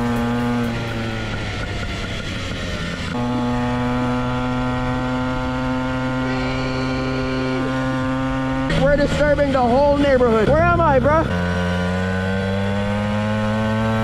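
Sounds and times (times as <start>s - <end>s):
small engine running hard: 0.0s - 14.0s.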